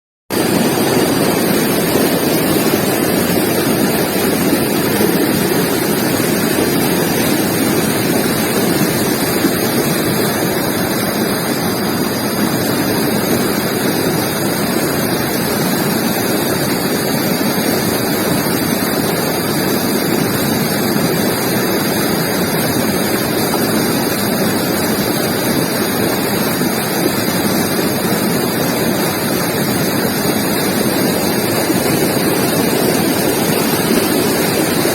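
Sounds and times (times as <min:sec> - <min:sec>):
river water rushing over rocks: 0:00.3 - 0:34.9.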